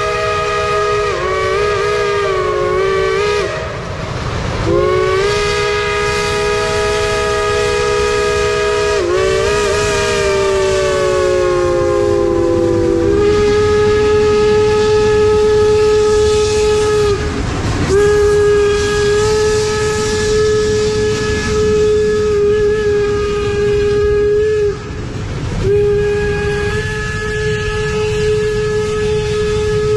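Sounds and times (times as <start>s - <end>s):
steam whistles blowing: 0.0s - 4.0s, 4.6s - 29.9s
steam locomotives hissing and rumbling: 0.0s - 29.9s.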